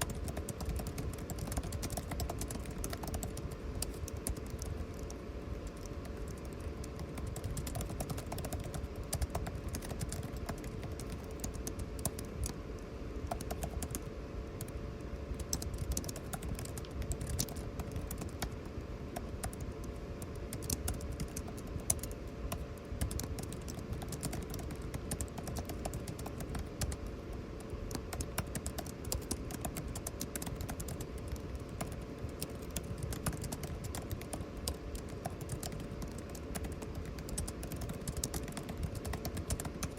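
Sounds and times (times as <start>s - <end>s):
air conditioning hum: 0.0s - 39.9s.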